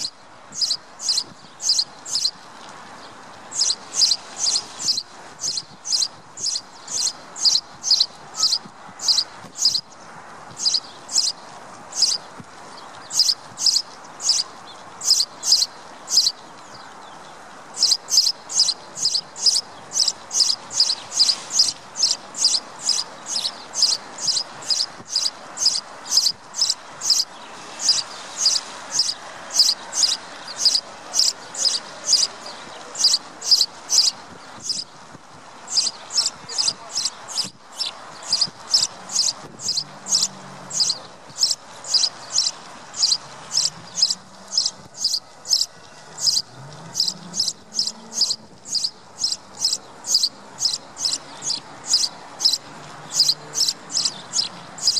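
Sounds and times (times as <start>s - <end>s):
sparrow chirping: 0.0s - 2.4s, 3.5s - 12.3s, 13.0s - 16.9s, 17.8s - 34.9s, 35.7s - 54.9s
faint background hiss: 0.0s - 54.9s.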